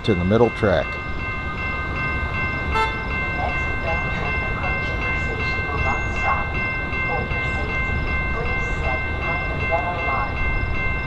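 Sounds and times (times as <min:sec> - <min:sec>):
high ringing tone: 0:00.0 - 0:11.0
train passing rumble: 0:00.0 - 0:11.0.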